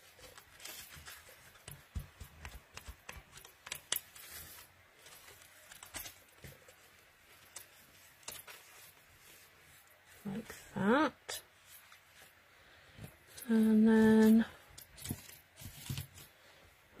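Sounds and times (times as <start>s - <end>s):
paper rustling: 0.0s - 16.6s.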